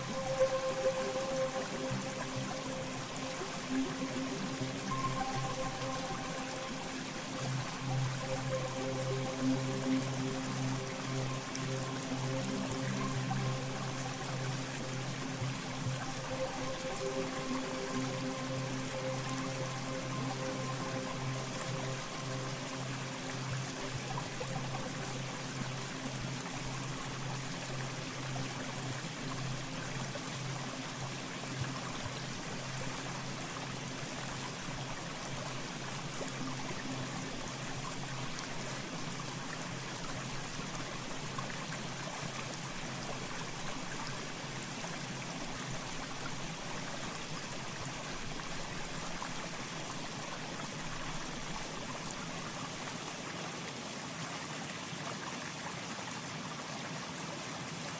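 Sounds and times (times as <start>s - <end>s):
faint low music tones: 0.0s - 57.9s
stream flowing: 0.0s - 57.9s.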